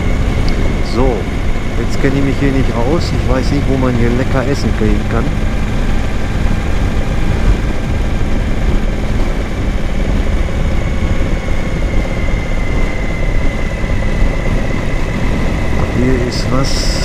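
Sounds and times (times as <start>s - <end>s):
motorcycle engine running: 0.0s - 17.0s
thin high whine: 0.0s - 17.0s
wind rush: 0.0s - 17.0s.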